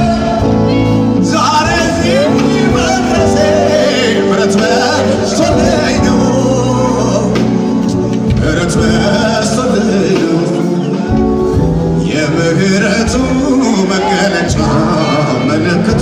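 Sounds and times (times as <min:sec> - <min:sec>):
band playing worship music: 0:00.0 - 0:16.0
steady bass: 0:00.0 - 0:16.0.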